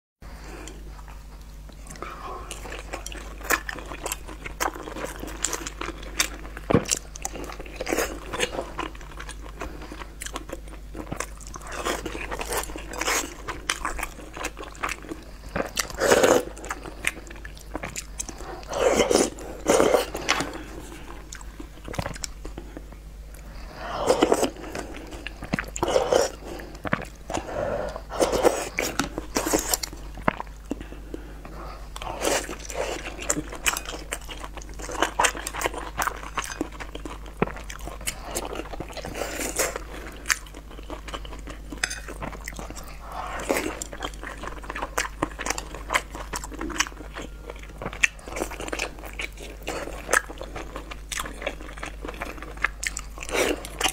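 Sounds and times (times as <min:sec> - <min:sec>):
chewing dumplings: 0:00.4 - 0:53.9.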